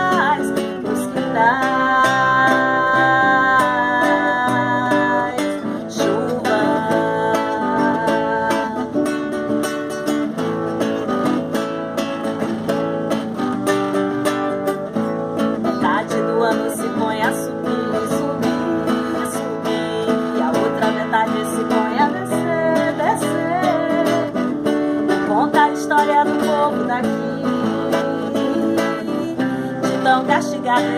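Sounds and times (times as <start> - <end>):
acoustic guitar strumming: 0.0 - 30.9.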